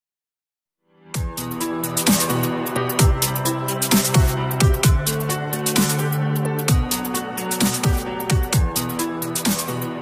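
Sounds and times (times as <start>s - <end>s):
electronic music: 1.2s - 10.0s.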